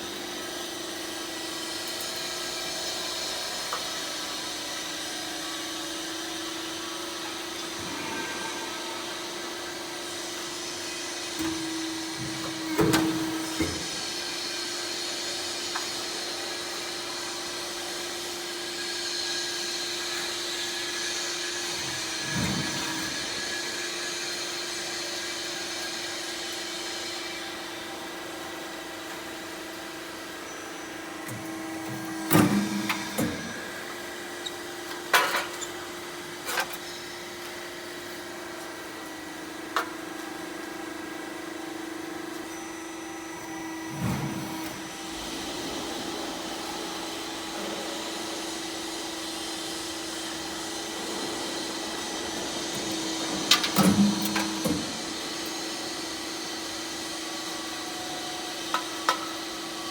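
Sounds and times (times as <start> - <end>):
roll forming machine motor hum: 0.1 - 27.9, 28.5 - 36.4, 41.7 - 59.9.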